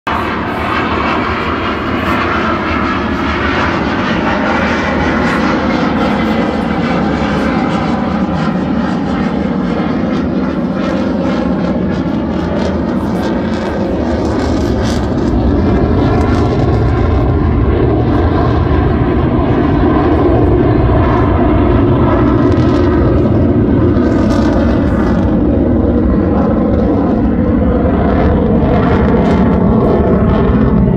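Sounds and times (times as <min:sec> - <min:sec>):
fighter jet roar: 0:00.1 - 0:30.9.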